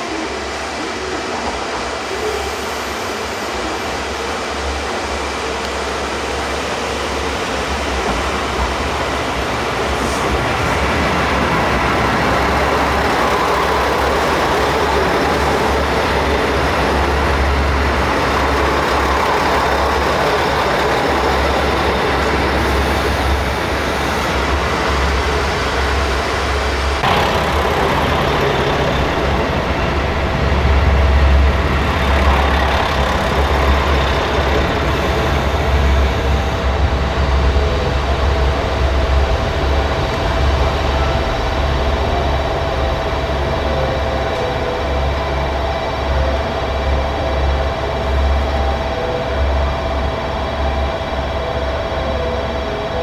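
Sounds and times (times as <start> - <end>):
diesel railcar engine rumble: 0.0 - 53.0
train wheel and rail noise: 0.0 - 53.0.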